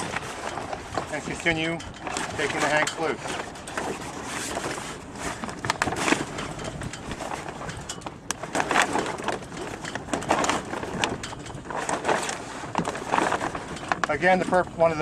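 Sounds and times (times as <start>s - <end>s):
sailcloth rustling and crinkling: 0.0s - 15.0s.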